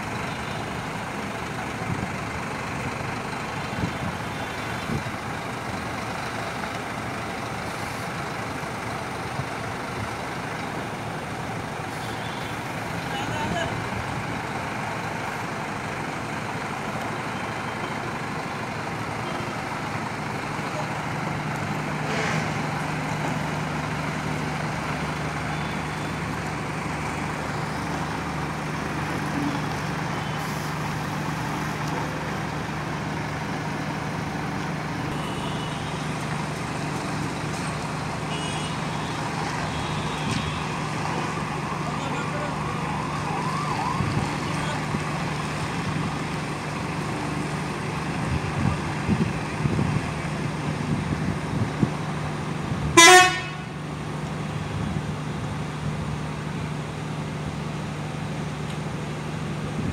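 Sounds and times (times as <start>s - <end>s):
coach diesel engine running: 0.0s - 59.9s.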